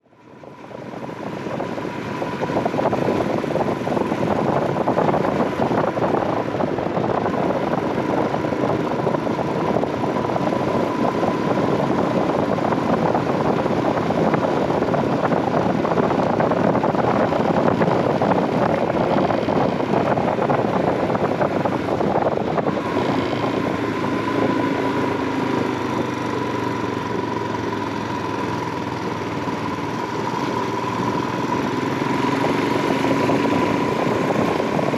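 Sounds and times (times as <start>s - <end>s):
motorcycle engine running: 0.0s - 34.9s
riding wind rushing: 0.5s - 34.9s.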